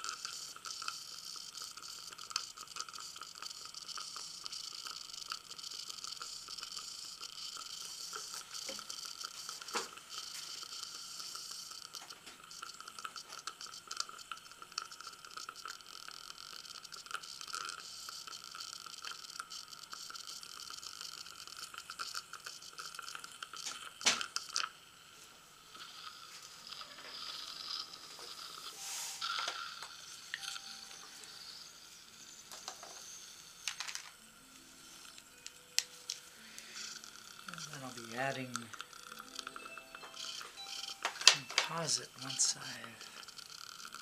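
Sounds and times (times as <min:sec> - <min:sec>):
saliva ejector sucking: 0:00.0 - 0:24.8, 0:25.7 - 0:33.8, 0:34.8 - 0:41.1, 0:41.7 - 0:44.0.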